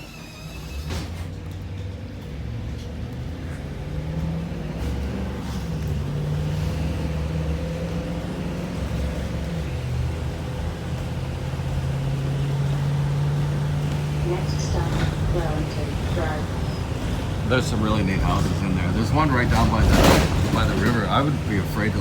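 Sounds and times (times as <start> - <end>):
vehicle engine pulling away: 0.0 - 22.0
road noise: 0.8 - 22.0.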